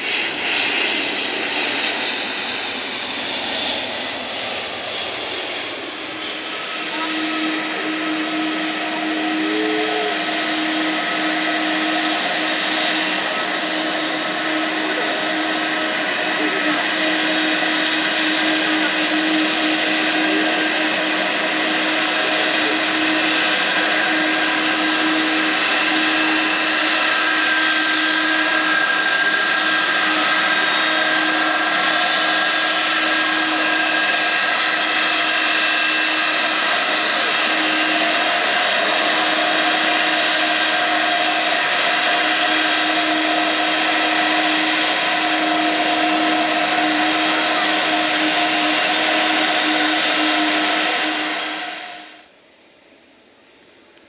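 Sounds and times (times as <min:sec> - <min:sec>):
jet engines whining: 0:00.0 - 0:52.4.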